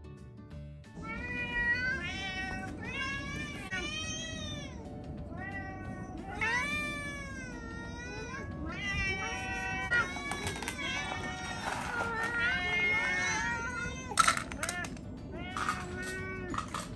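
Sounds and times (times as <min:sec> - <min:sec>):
cats meowing: 0:01.0 - 0:16.9.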